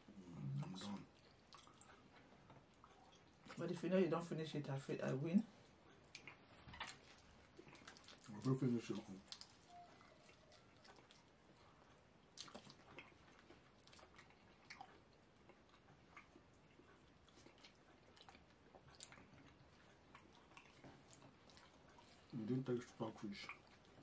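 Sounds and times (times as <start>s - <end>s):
people chewing: 0.0s - 3.8s, 5.5s - 24.0s.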